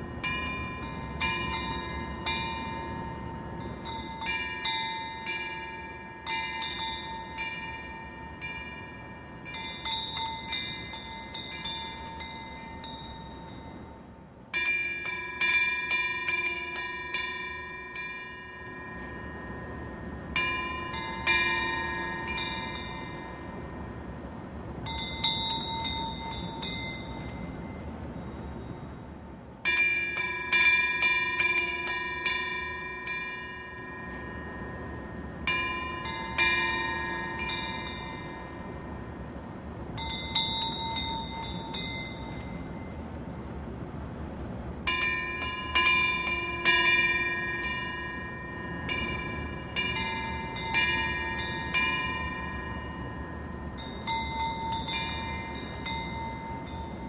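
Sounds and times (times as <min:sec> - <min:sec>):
low background noise: 0:00.0 - 0:57.0
wind bells ringing: 0:00.0 - 0:57.0.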